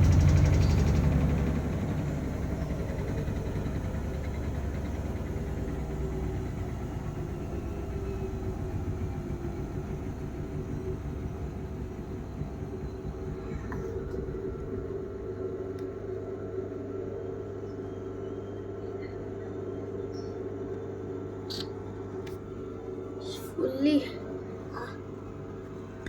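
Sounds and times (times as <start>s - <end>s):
washing machine spin slowing: 0.0s - 26.0s.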